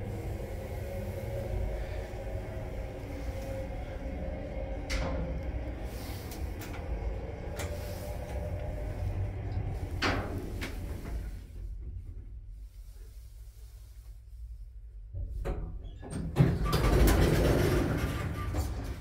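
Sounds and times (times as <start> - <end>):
elevator low rumble: 0.0 - 19.0.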